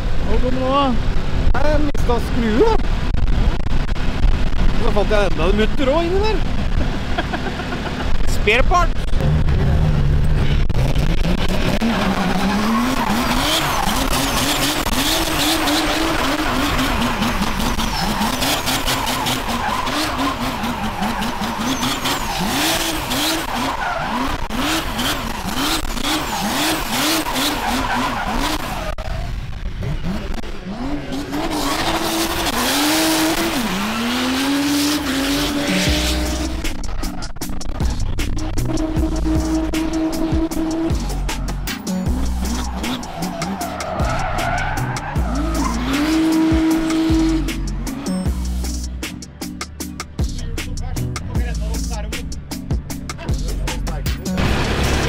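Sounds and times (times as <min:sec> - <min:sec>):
car engine revving: 0:00.0 - 0:55.0
tyres skidding and squealing: 0:00.0 - 0:55.0.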